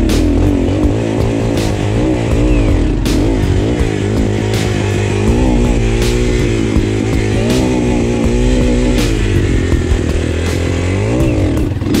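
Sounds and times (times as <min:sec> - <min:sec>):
steady low hum: 0:00.0 - 0:11.8
dirt bike engine revving: 0:00.0 - 0:12.0.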